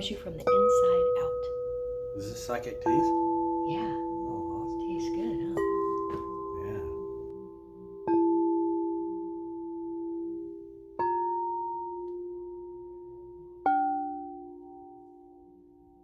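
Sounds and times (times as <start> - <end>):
singing bowls ringing: 0.4 - 16.0.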